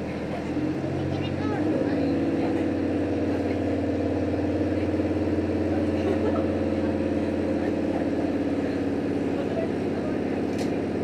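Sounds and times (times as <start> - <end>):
railcar diesel engine hum: 0.0 - 11.0.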